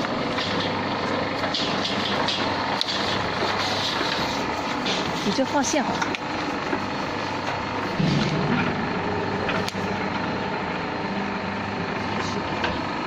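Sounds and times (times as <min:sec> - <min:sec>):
cable stripping machine humming: 0:00.0 - 0:13.0.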